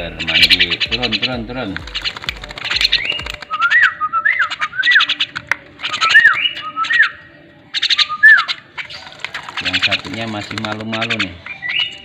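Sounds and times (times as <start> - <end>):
birds whistling: 0.0 - 12.0
rapid clicky bird chatter: 0.0 - 12.0.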